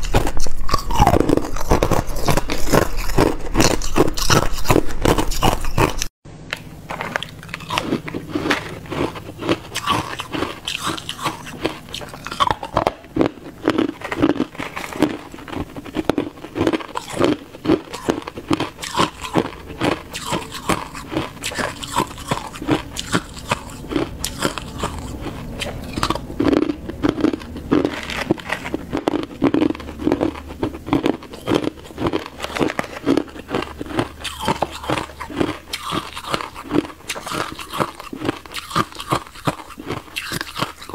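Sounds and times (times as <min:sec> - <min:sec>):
ice crunching while chewed: 0:00.0 - 0:40.9.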